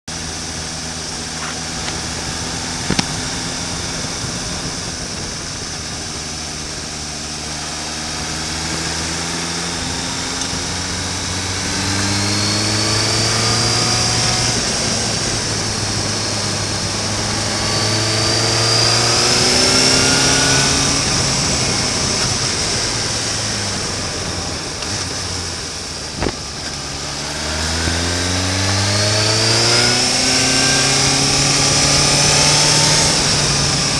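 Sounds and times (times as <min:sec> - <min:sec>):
motorcycle engine accelerating: 0:00.0 - 0:33.9
wind noise: 0:00.2 - 0:33.9.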